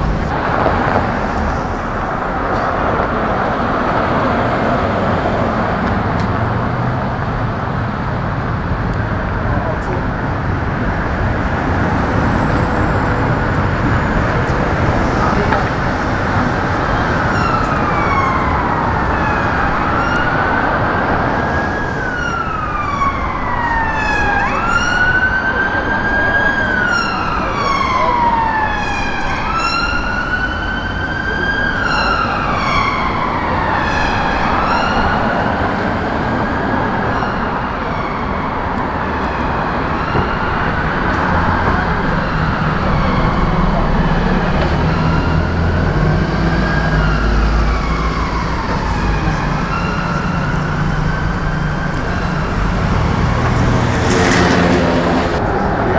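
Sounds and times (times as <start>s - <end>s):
emergency siren wailing: 0.0s - 55.9s
street traffic: 0.0s - 55.9s.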